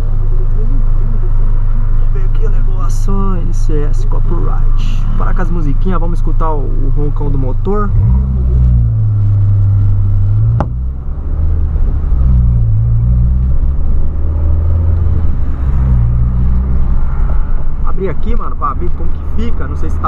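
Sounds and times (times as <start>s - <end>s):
car engine drone inside cabin: 0.0s - 20.0s.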